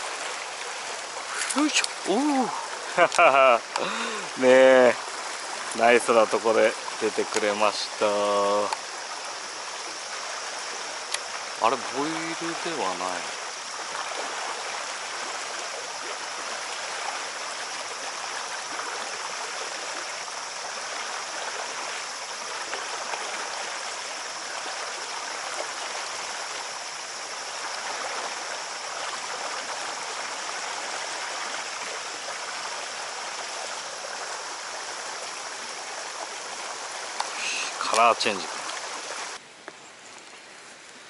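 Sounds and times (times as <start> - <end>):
stream cascading over rocks: 0.0 - 41.0.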